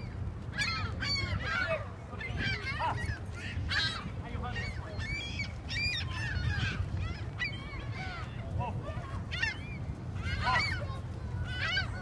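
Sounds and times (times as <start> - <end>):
gulls squawking: 0.0 - 12.0.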